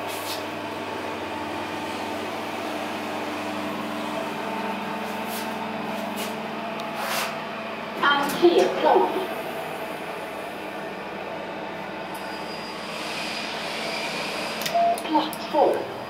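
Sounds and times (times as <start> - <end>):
elevator mechanical hum: 0.0 - 16.0.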